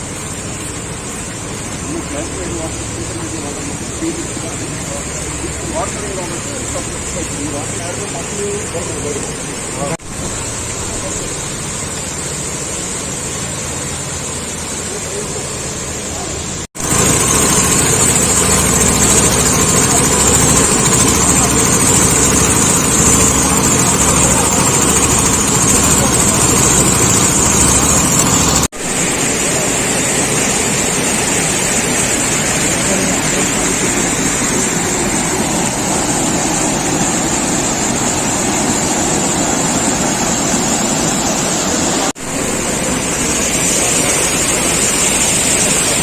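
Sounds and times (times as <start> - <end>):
engine running with low throb: 0.0 - 46.0
loud rushing noise: 0.0 - 46.0.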